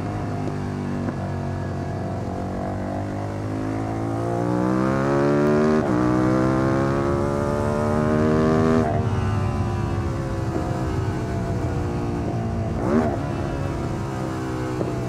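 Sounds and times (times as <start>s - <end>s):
motorcycle exhaust accelerating: 0.0s - 15.0s.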